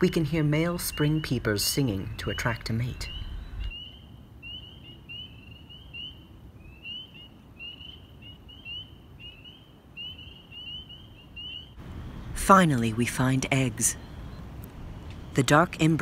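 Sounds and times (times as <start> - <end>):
frogs peeping: 0.0 - 16.0.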